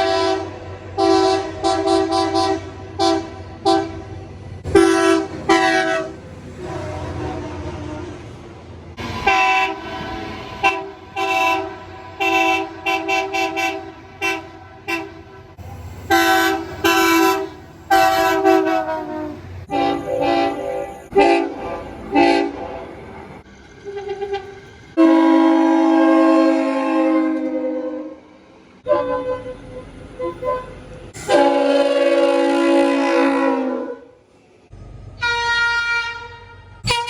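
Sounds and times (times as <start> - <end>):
locomotive air horns: 0.0 - 23.1, 23.8 - 34.6, 35.2 - 37.0
low engine rumble: 0.0 - 26.8, 27.5 - 37.0.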